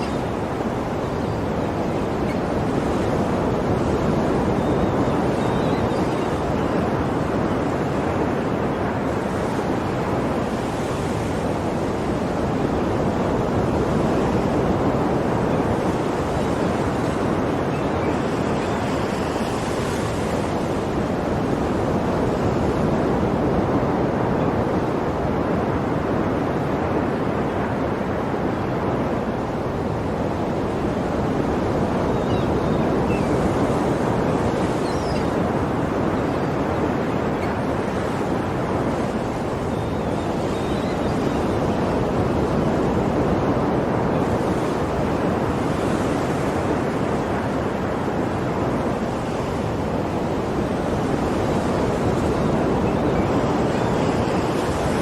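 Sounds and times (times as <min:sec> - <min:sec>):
sea waves washing on shore: 0:00.0 - 0:55.0.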